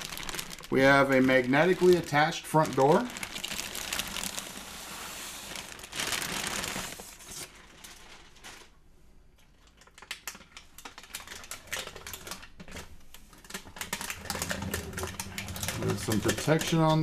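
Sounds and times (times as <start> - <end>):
plastic bag crinkling: 0.0 - 8.8, 9.5 - 17.0.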